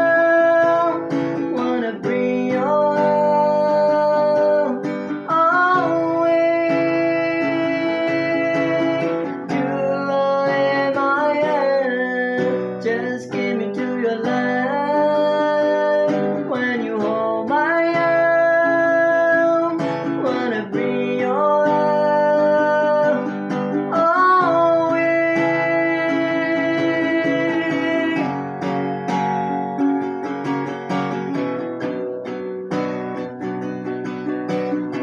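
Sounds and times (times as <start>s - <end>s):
acoustic guitar strumming: 0.0s - 35.0s
sliding guitar lead melody: 0.0s - 35.0s.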